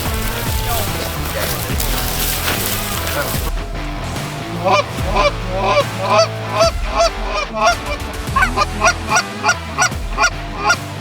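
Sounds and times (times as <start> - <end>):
goose honking: 0.0 - 11.0.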